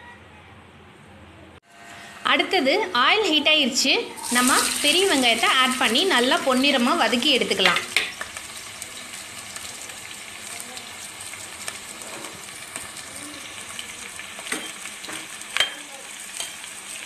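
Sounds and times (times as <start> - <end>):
onions sizzling in oil: 1.7 - 17.0.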